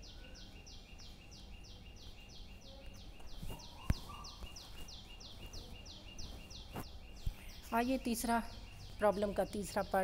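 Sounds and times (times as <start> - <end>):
high-pitched chirping: 0.0 - 10.0.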